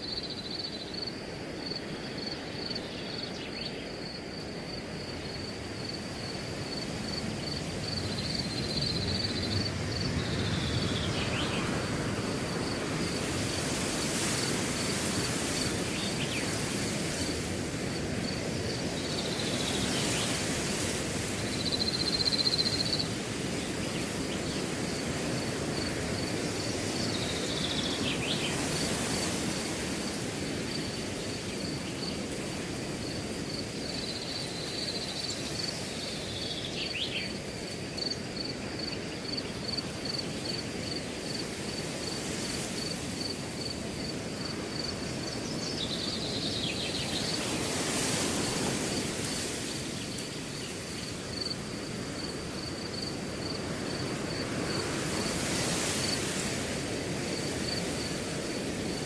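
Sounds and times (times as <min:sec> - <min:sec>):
cricket chirping: 0:00.0 - 0:59.0
wind blowing through grass: 0:00.0 - 0:59.0.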